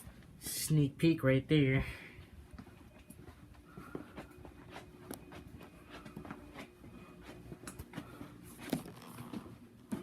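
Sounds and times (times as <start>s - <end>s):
ceiling fan motor hum: 0.0s - 10.0s.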